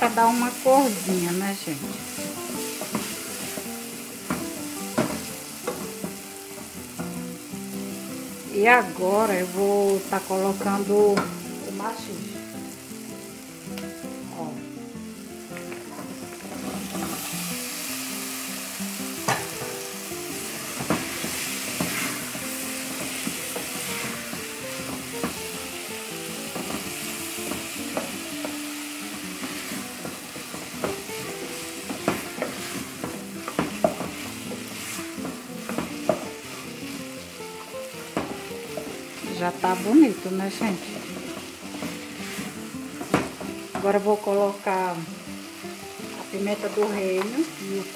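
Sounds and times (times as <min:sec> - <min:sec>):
vegetables sizzling in a pot: 0:00.0 - 0:47.9.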